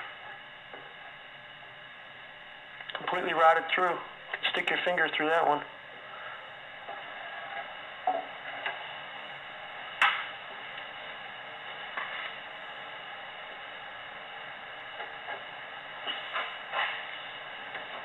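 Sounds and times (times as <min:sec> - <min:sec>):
steady noise floor hiss: 0:00.0 - 0:18.0.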